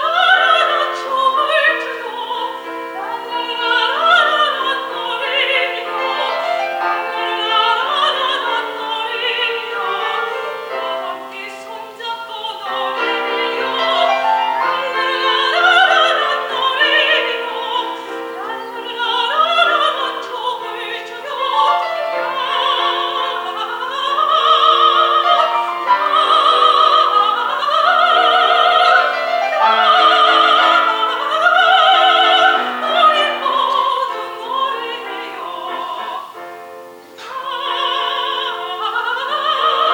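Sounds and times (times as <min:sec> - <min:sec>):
piano accompaniment: 0:00.0 - 0:39.9
woman singing operatically: 0:00.0 - 0:39.9.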